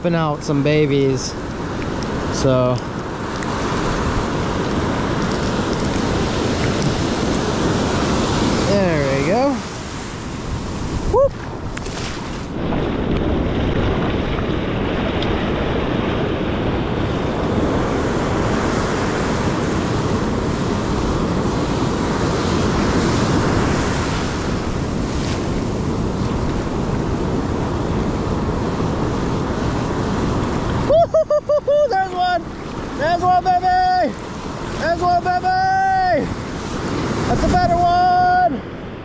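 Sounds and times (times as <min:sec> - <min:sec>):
ocean surf breaking: 0:00.0 - 0:39.0
wind buffeting microphone: 0:00.0 - 0:39.0.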